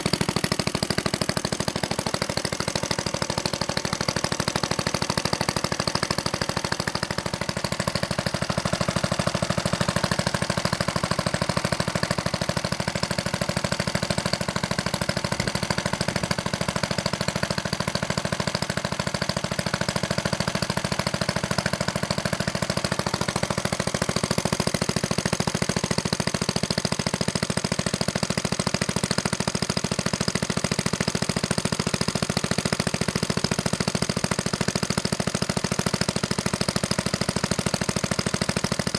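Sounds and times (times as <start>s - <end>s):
small stationary engine running: 0.0s - 38.9s.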